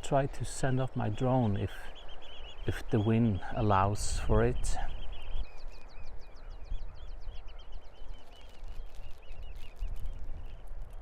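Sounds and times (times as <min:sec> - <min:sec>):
flock of birds calling: 0:00.0 - 0:10.9
wind rumbling on microphone: 0:00.0 - 0:11.0.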